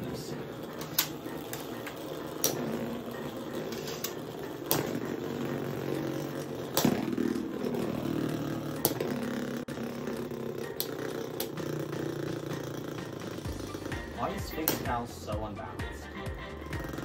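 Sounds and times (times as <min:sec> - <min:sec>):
spinning tops clacking: 0:00.0 - 0:15.3
spinning tops whirring: 0:00.0 - 0:17.0.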